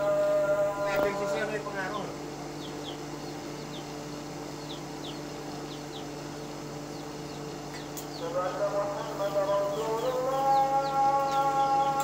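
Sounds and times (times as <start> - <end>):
forge air blower humming: 0.0 - 12.0
small birds chirping: 1.0 - 12.0.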